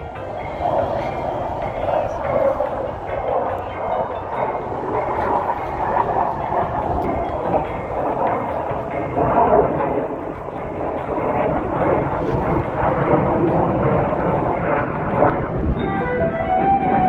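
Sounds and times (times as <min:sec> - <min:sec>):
jet engine noise: 0:00.0 - 0:17.0
music with steady pitched notes: 0:00.0 - 0:17.0.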